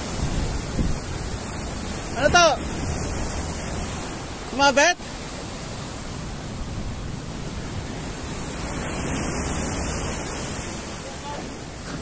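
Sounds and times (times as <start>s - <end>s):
surf breaking on rocky shore: 0.0s - 12.0s.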